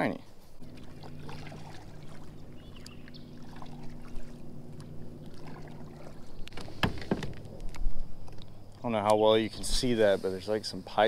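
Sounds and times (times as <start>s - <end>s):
kayak drive humming: 0.0s - 11.0s.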